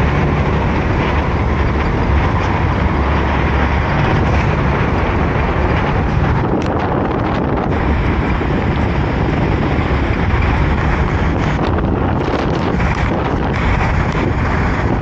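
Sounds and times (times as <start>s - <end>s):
car engine and tyre rumble: 0.0s - 15.0s
rushing wind hiss: 0.0s - 15.0s.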